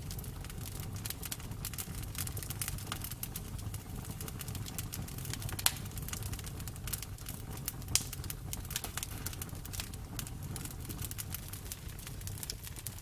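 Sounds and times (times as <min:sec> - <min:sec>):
bonfire crackling and popping: 0:00.0 - 0:13.0
low rumble of flames: 0:00.0 - 0:13.0.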